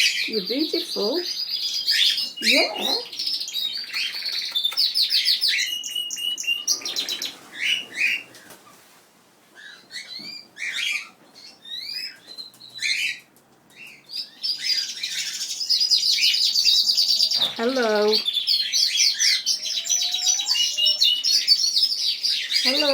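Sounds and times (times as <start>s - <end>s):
birds chirping and singing: 0.0s - 8.6s, 9.6s - 22.9s.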